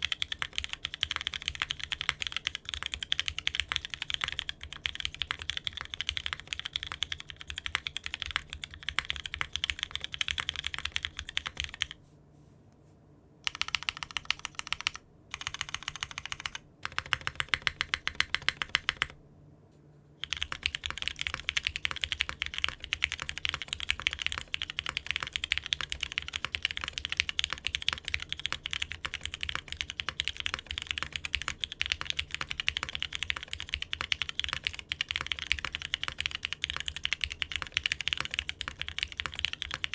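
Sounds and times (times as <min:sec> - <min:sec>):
mechanical keyboard typing: 0:00.0 - 0:12.0, 0:13.4 - 0:19.2, 0:20.2 - 0:39.9.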